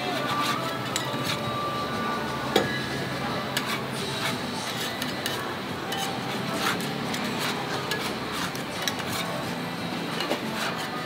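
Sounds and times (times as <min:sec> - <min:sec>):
cooking utensils clinking: 0:00.1 - 0:01.7, 0:02.6 - 0:11.0.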